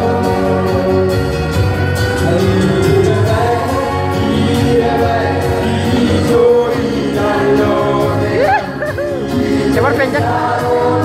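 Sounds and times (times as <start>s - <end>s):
congregation singing a hymn: 0.0s - 1.4s, 2.0s - 11.0s.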